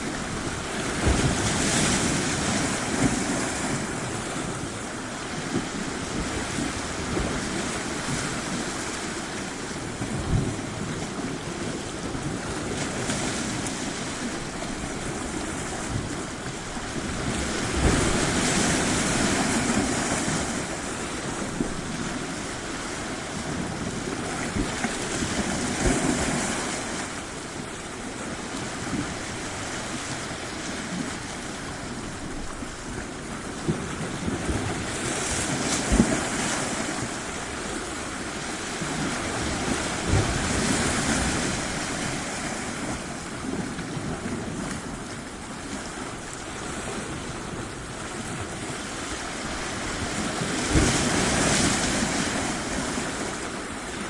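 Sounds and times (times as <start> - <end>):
sea waves washing ashore: 0.0 - 54.0
wind buffeting microphone: 0.0 - 54.0.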